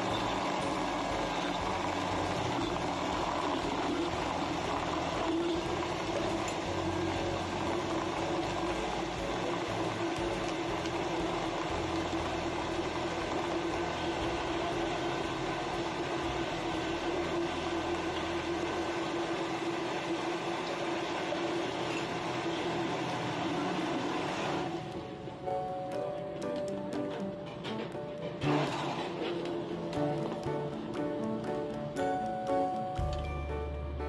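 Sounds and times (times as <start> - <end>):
blender motor grinding ice: 0.0 - 25.2, 26.6 - 32.3.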